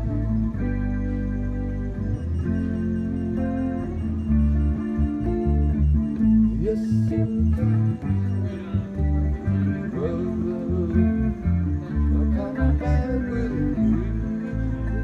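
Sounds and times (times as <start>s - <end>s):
live band playing instrumental: 0.0s - 13.1s.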